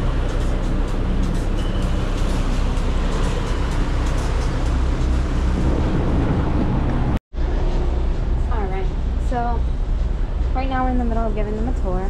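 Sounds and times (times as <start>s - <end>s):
wind and water rushing: 0.0s - 10.5s
boat engine rumble: 0.0s - 12.0s.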